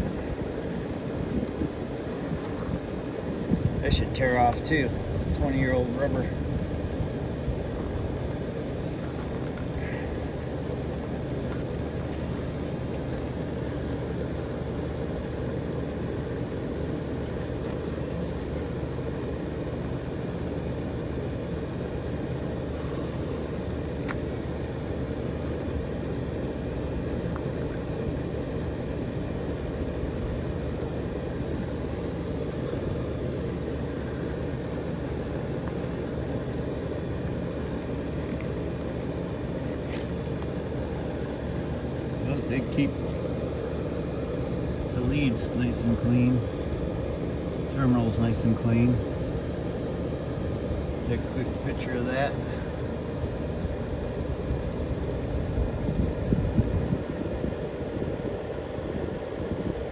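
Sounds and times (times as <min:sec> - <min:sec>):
steady low background noise: 0:00.0 - 0:59.9.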